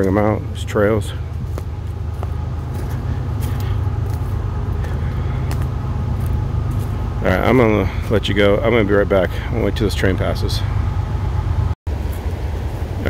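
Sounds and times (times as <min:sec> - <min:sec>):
train rumbling on tracks: 0:00.0 - 0:13.0.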